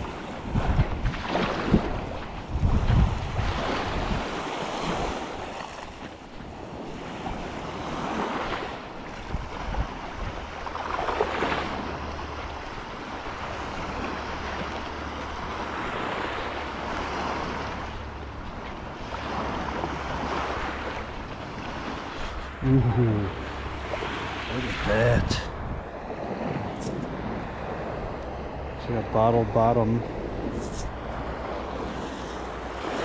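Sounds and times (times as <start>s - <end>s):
waves washing onto shore: 0.0s - 33.0s
wind rumbling on microphone: 0.0s - 33.0s.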